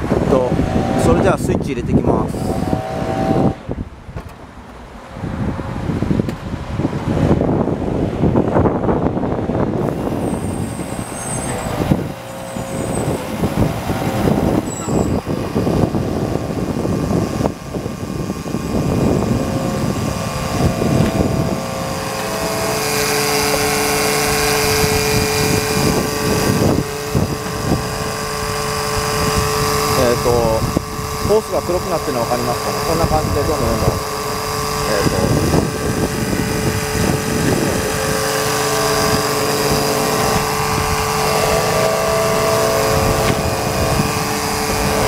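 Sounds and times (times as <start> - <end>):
electric pump running: 0.0 - 45.0.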